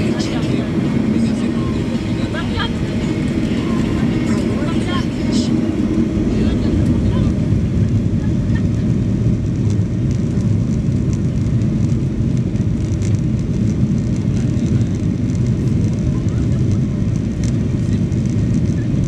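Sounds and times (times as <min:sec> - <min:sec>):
low rumble of engines and wheels: 0:00.0 - 0:19.0.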